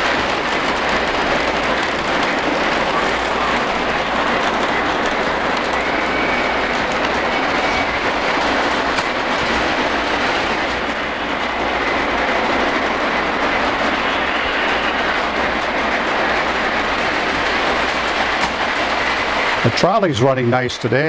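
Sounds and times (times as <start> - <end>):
model trains running on track: 0.0 - 21.0.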